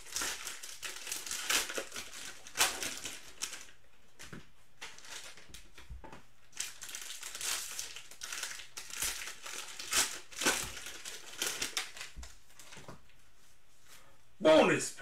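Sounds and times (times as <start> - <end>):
cellophane wrappers crinkling: 0.0 - 5.8, 6.4 - 13.1.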